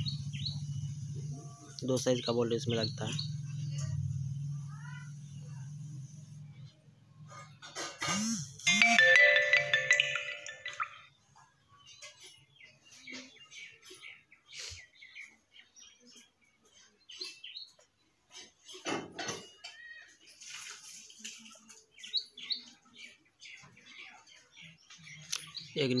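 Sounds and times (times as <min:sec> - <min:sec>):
small birds chirping: 0:00.0 - 0:08.2, 0:08.9 - 0:26.0.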